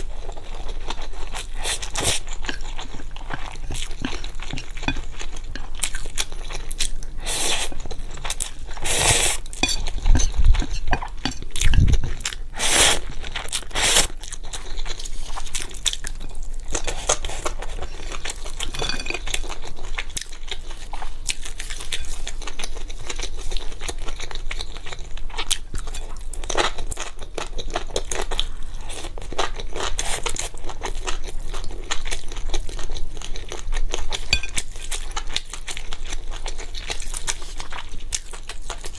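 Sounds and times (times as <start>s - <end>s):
chewing and crunching: 0.0s - 38.9s.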